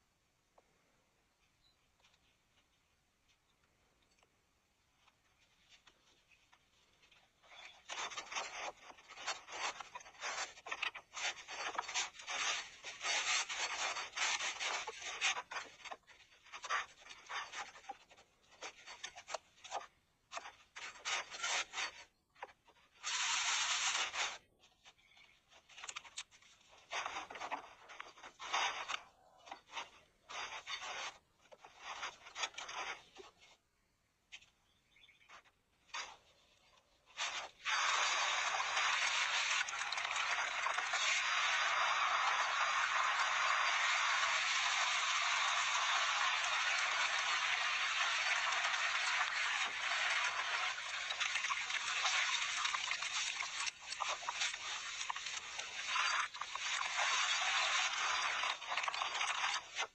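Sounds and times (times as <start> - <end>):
rubbing and scraping: 4.8 - 34.6, 35.2 - 59.9.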